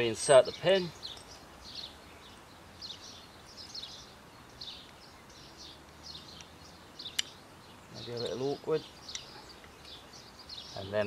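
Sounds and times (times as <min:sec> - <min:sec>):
faint bird chirps: 0:00.3 - 0:11.0.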